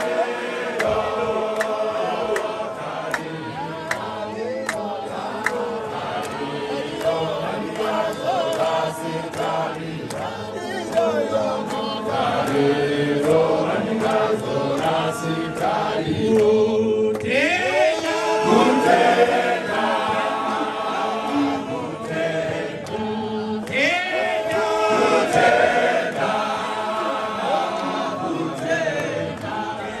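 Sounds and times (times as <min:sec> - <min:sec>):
group singing in chorus: 0:00.0 - 0:30.0.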